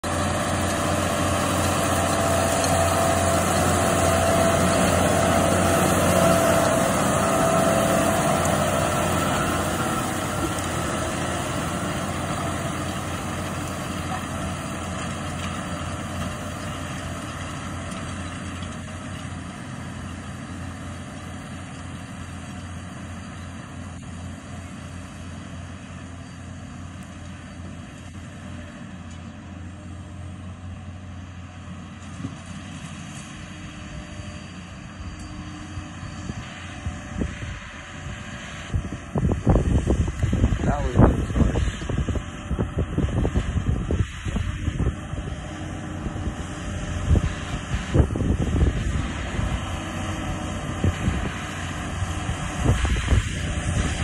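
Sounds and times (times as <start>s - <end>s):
cultivator rushing noise: 0.0s - 22.9s, 29.9s - 54.0s
tractor engine drone: 0.0s - 54.0s.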